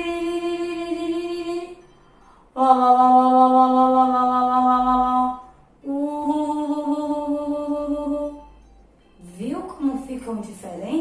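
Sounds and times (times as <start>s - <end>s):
woman singing wavering vowel notes: 0.0s - 11.0s.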